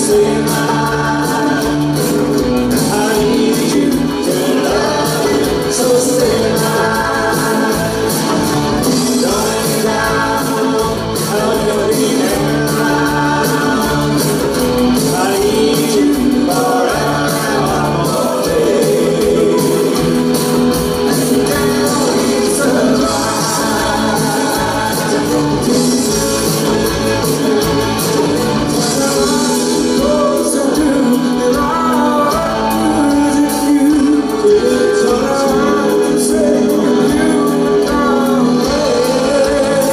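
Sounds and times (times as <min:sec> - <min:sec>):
acoustic and electric guitars: 0:00.0 - 0:39.9
drums: 0:00.0 - 0:39.9
keyboard: 0:00.0 - 0:39.9
man singing: 0:00.0 - 0:39.9.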